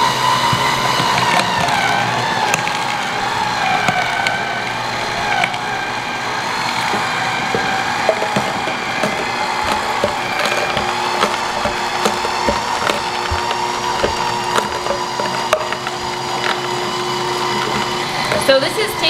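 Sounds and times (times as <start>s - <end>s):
carrots crackling and snapping: 0.0s - 19.0s
juicer motor whine: 0.0s - 19.0s.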